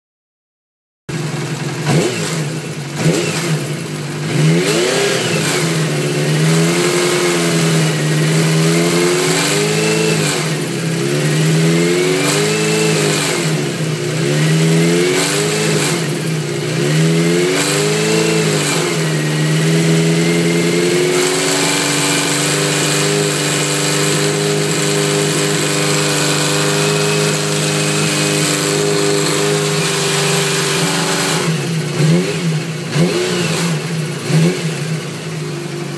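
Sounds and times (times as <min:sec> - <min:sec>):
motorcycle engine revving: 0:01.1 - 0:35.9.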